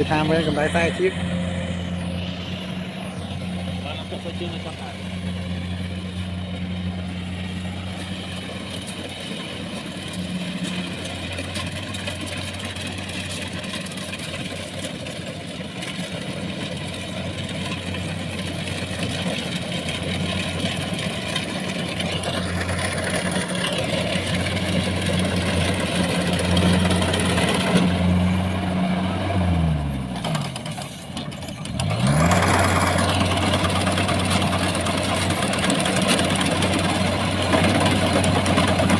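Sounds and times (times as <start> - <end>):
harvester engine running: 0.0 - 38.9.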